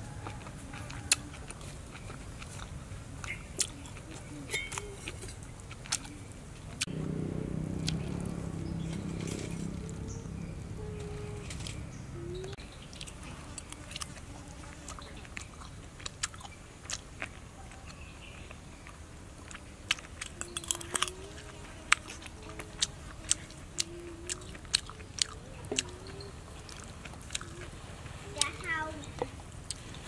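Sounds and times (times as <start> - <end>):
wet chewing with mouth clicks: 0.0 - 30.0.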